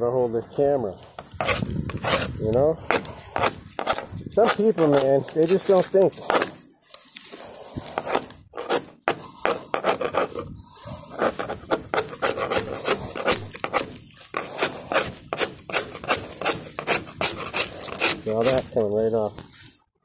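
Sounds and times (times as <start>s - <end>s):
chisel scraping fiberglass: 1.0s - 19.8s.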